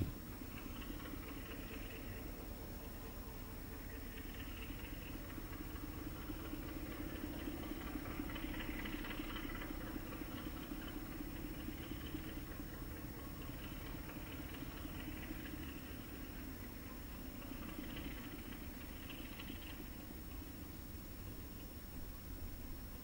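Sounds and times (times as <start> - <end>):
distant engine drone: 0.0 - 21.4.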